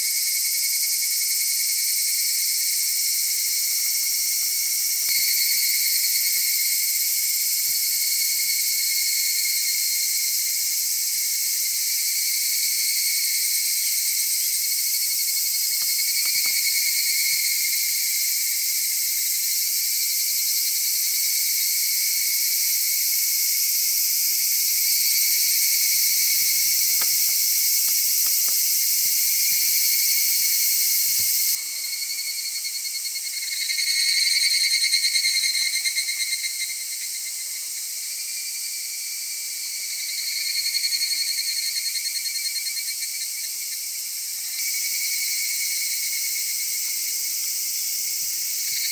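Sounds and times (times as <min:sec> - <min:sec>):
cicada chorus: 0:00.0 - 0:48.9
evening cicadas calling in swells: 0:00.0 - 0:48.9.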